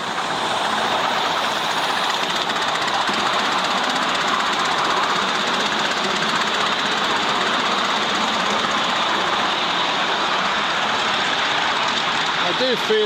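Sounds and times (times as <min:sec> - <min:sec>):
miniature train wheels on rails: 0:00.0 - 0:13.0
mechanical clatter: 0:01.6 - 0:13.0.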